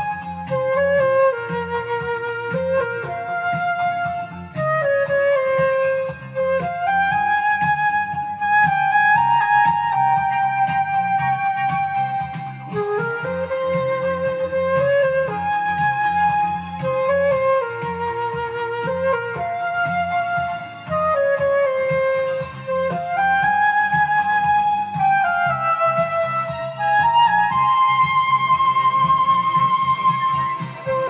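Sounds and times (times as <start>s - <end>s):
backing track with bass and beat: 0.0s - 31.0s
flute playing slow melody: 0.0s - 31.0s.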